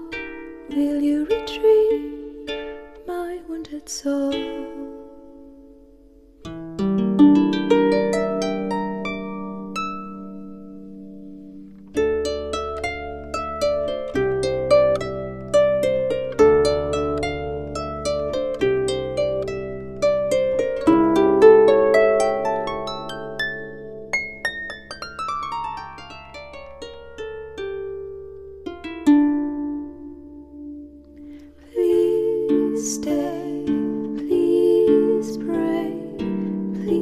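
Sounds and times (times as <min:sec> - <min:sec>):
plucked harp-like notes: 0:00.0 - 0:37.0.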